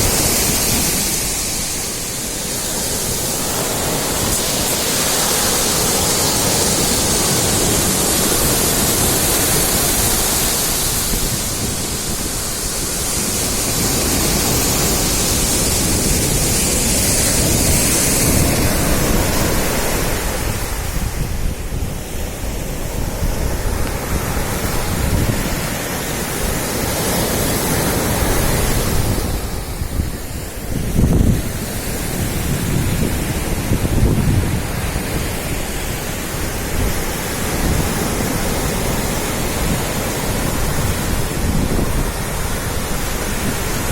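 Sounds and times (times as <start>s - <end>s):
surf washing onto a beach: 0.0s - 43.9s
wind buffeting microphone: 0.0s - 43.9s.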